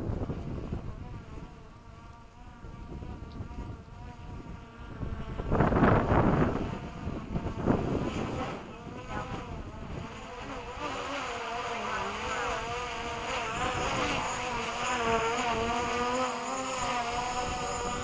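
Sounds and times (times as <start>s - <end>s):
wind buffeting microphone: 0.0s - 11.0s, 11.8s - 18.0s
drone propellers buzzing: 0.0s - 18.0s.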